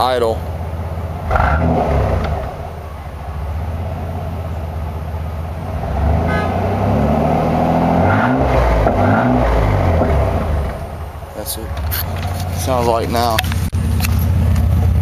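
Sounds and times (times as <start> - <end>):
truck engine idling and revving: 0.0 - 15.0.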